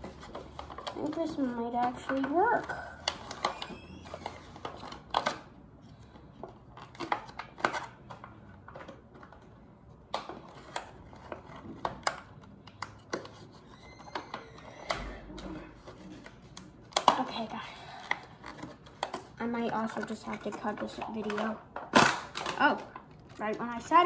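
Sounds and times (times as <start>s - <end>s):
plastic packaging clicking and crinkling: 0.0s - 24.0s.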